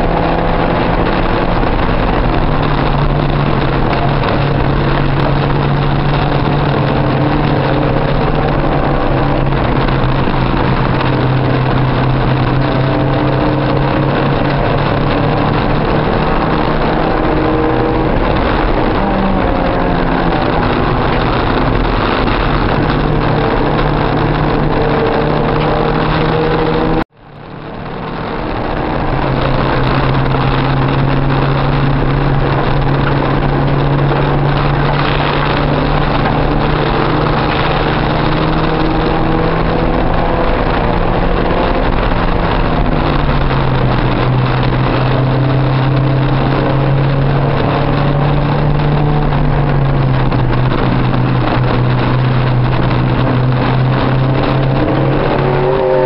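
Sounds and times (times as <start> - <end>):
race car engine drone: 0.0 - 56.0.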